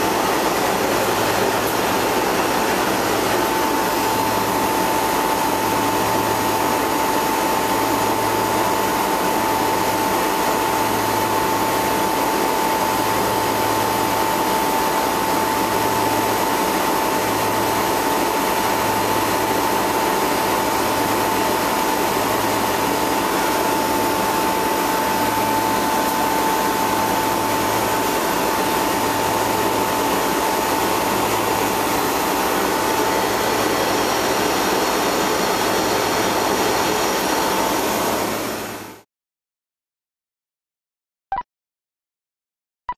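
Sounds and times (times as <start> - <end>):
refrigeration compressor humming: 0.0 - 39.0.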